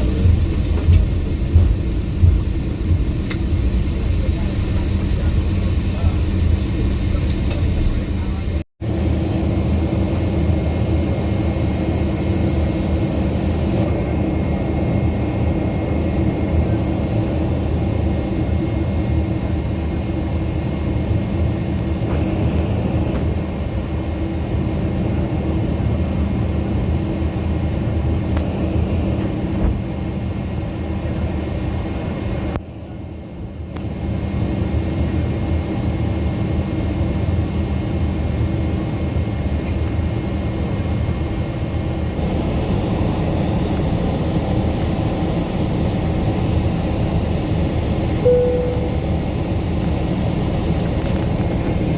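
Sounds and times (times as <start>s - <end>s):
jet engines droning in flight: 0.0s - 51.9s.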